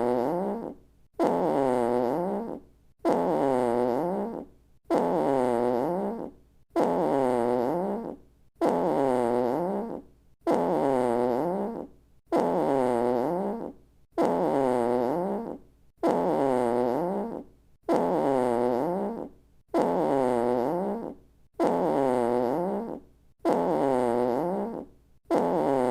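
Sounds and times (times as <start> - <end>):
comedy fart sound effect: 0.0 - 25.9.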